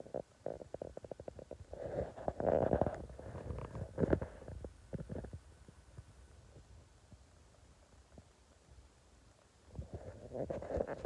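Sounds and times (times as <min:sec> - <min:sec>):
cat purring: 0:00.0 - 0:08.8, 0:09.6 - 0:11.0.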